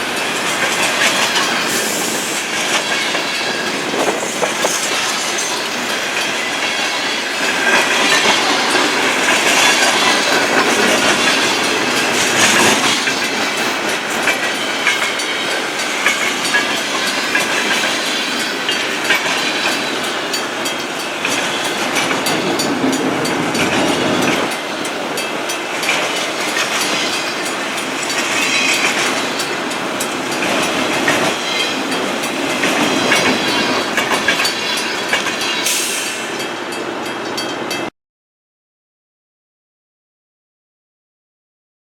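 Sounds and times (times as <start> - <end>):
train wheels clacking over rail joints: 0.0 - 36.5.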